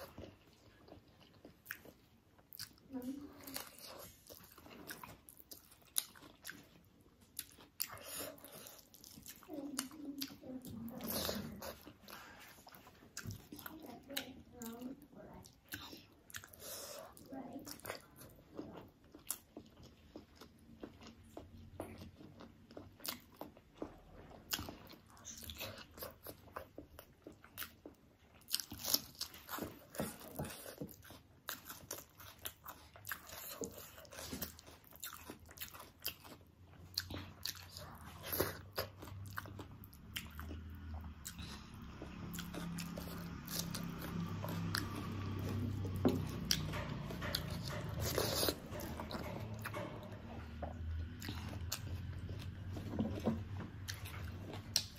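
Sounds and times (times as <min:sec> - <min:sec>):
close chewing with mouth clicks: 0:00.0 - 0:54.9.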